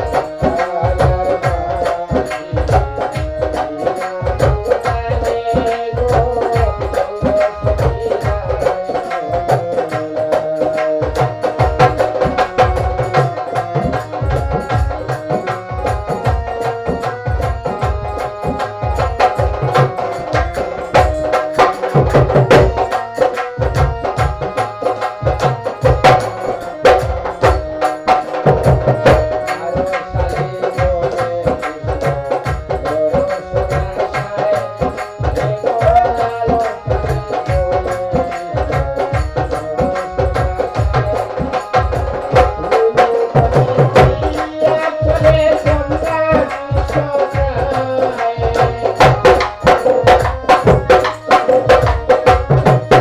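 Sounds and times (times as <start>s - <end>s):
hand drum beating: 0.0s - 53.0s
wavering melody line: 0.0s - 53.0s.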